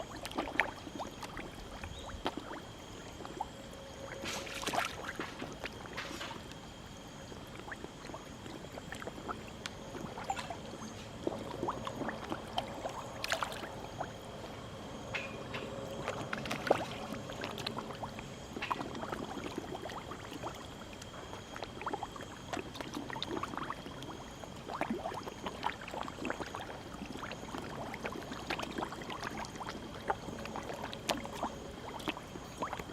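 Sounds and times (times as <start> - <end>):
fish splashing at water surface: 0.0 - 6.7, 7.3 - 14.3, 15.0 - 32.9.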